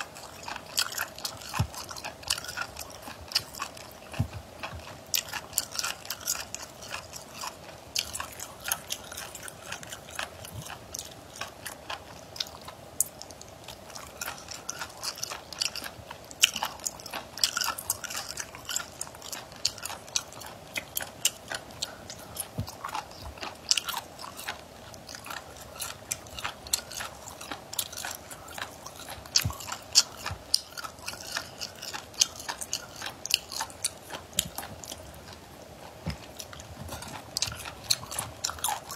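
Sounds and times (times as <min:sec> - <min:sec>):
faint steady hum: 0:00.0 - 0:38.9
person chewing crunchy food: 0:00.0 - 0:38.9.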